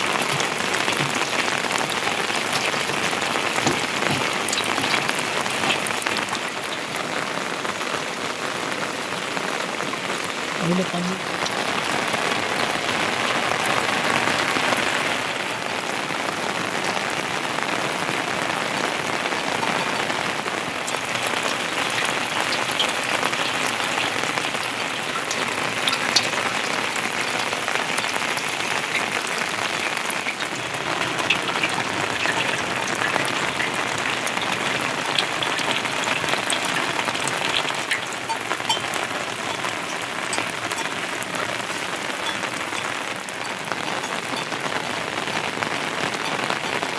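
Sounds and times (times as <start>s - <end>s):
heavy rain hissing: 0.0s - 46.9s
raindrops ticking on surfaces: 0.0s - 46.9s.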